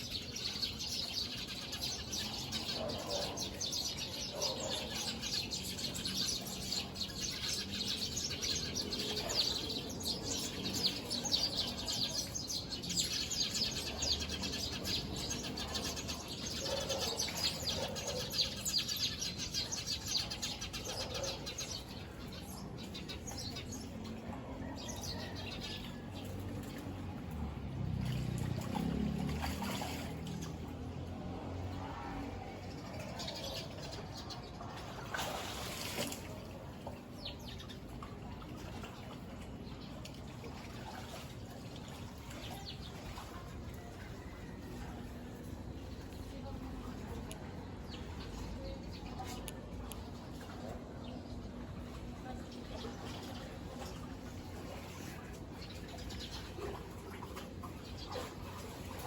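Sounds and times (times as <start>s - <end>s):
flock of small birds chirping: 0.0s - 31.0s, 31.6s - 59.0s.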